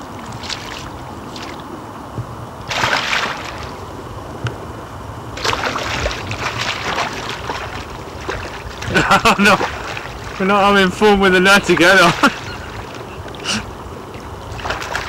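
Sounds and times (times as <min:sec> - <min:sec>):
steady low rumble: 0:00.0 - 0:15.0
fish splashing at the surface: 0:00.1 - 0:01.7, 0:02.7 - 0:03.9, 0:05.4 - 0:15.0.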